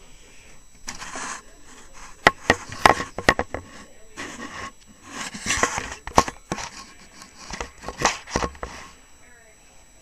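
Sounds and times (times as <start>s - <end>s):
rustling and scraping: 0.8s - 9.0s.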